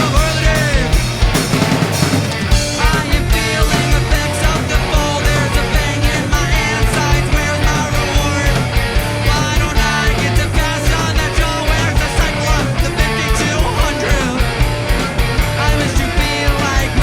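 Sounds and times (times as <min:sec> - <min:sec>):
bass guitar: 0:00.0 - 0:17.0
distorted electric guitars: 0:00.0 - 0:17.0
driving drum beat: 0:00.0 - 0:17.0.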